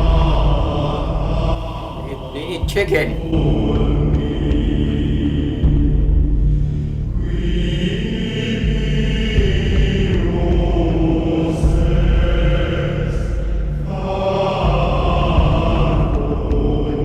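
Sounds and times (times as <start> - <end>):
chant-like choral voices: 0.0 - 17.0
heavy low drone: 0.0 - 17.0.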